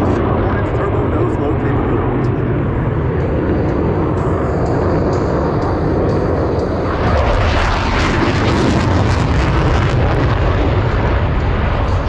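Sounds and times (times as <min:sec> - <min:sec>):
jet engine crackling: 0:00.0 - 0:12.0
jet engine roar: 0:00.0 - 0:12.0.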